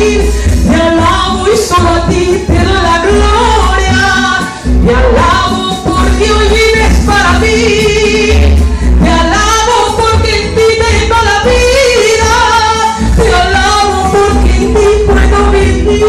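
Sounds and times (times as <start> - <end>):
live band with heavy bass: 0.0 - 16.0
woman singing into a microphone: 0.0 - 16.0.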